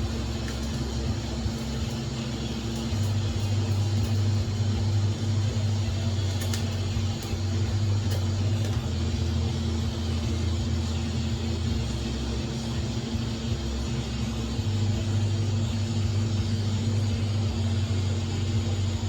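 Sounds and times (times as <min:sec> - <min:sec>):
welding arc humming and hissing: 0:00.0 - 0:19.0.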